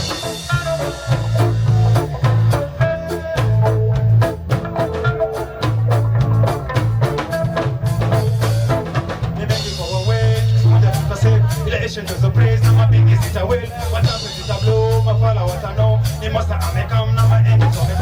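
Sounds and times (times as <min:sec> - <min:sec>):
drum kit beating: 0:00.0 - 0:18.0
heavy bass line: 0:00.0 - 0:18.0
reggae band playing: 0:00.0 - 0:18.0.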